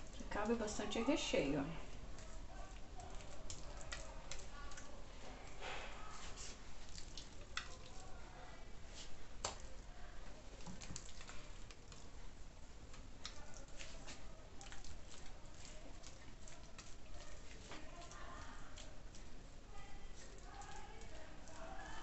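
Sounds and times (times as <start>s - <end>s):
spoon spreading wet filling: 0.0s - 22.0s.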